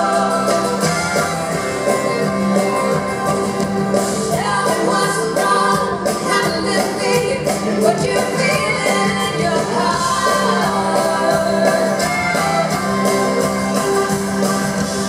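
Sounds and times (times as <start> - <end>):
women singing: 0.0 - 13.5
country band playing live: 0.0 - 15.0.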